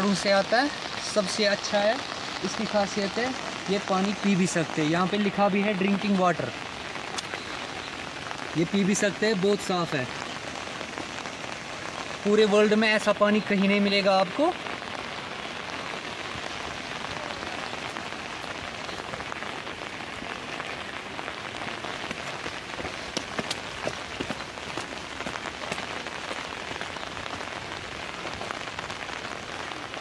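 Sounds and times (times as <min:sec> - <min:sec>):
heavy rain falling: 0:00.0 - 0:30.0
raindrops tapping: 0:00.0 - 0:30.0.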